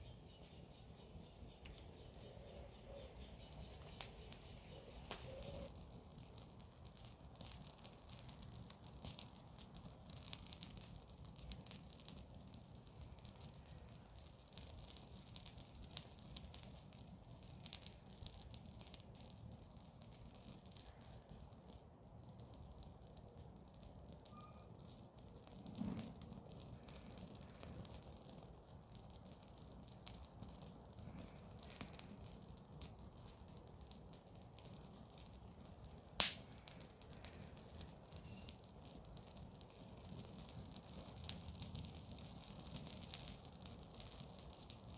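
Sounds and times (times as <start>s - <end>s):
bonfire crackling: 0.0s - 44.9s.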